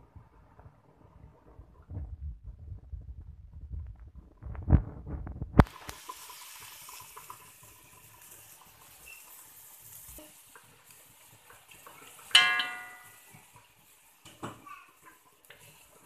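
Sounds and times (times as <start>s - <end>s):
water boiling in a wok: 0.0s - 16.0s.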